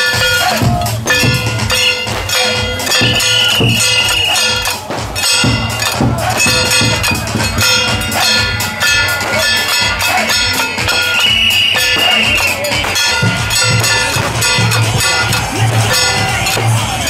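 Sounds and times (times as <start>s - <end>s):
clanging metal percussion: 0.0s - 17.0s
high wavering melody: 0.0s - 17.0s.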